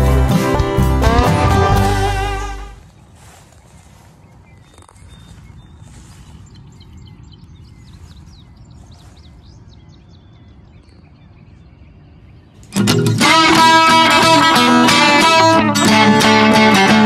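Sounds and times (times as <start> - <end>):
small birds chirping: 2.7 - 16.4.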